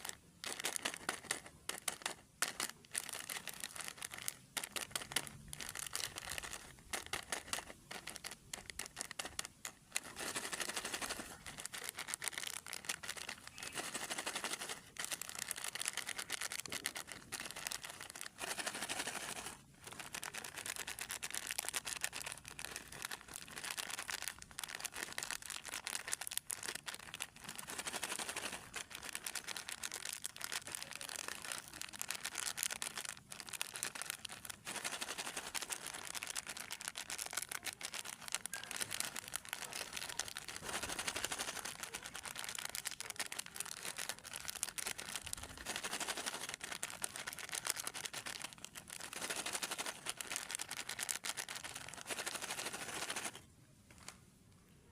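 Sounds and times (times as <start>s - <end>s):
plastic packaging crinkling: 0.0s - 54.2s.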